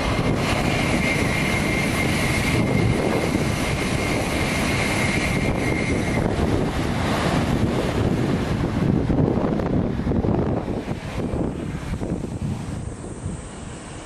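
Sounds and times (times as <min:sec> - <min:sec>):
train passing at high speed: 0:00.0 - 0:14.0.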